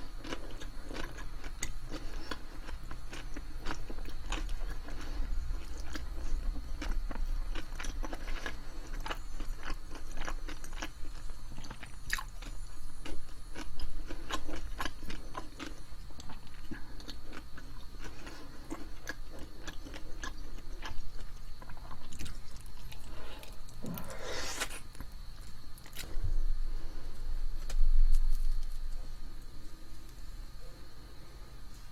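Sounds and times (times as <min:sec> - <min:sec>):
chewing and crunching food: 0:00.0 - 0:30.3.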